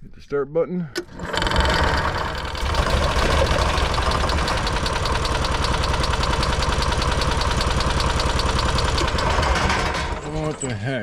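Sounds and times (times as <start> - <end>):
generator engine cranking: 0.9 - 11.0.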